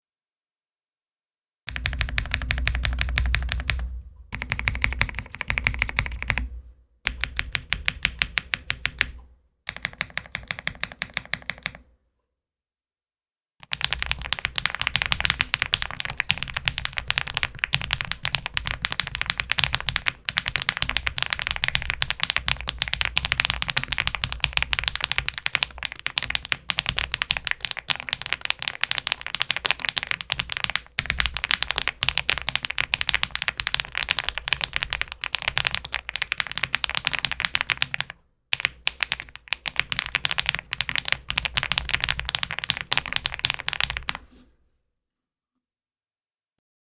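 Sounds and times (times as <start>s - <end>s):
fast typing on mechanical keyboard: 1.7s - 3.8s, 4.4s - 6.4s, 7.1s - 9.1s, 9.7s - 11.8s, 13.6s - 44.2s.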